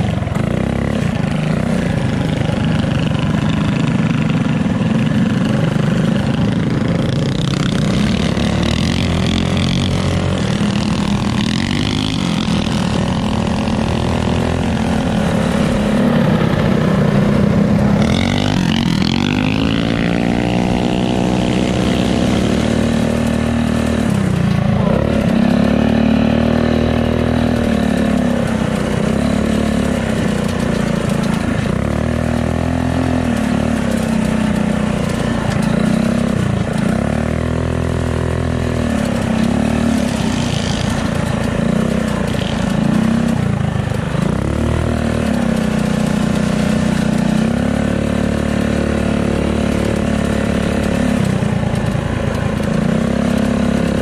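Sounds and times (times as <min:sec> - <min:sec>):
small motorbike engine revving: 0:00.0 - 0:54.0.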